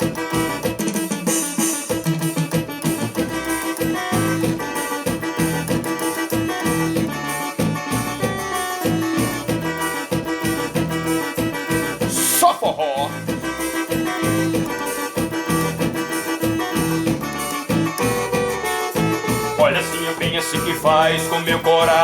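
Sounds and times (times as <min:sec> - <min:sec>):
keyboard melody: 0:00.0 - 0:22.0
steady dance beat: 0:00.0 - 0:22.0.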